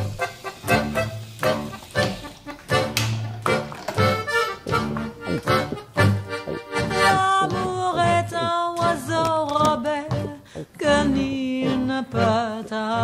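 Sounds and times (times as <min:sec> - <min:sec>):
light musical accompaniment: 0:00.0 - 0:13.0.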